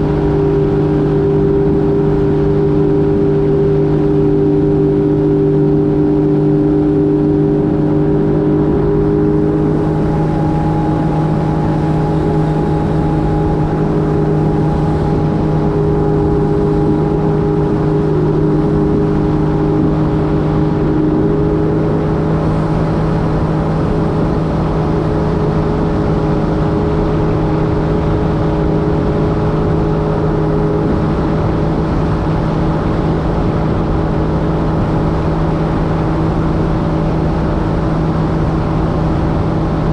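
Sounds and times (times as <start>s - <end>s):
jet ski engine hum: 0.0s - 39.9s
water rushing: 0.0s - 39.9s.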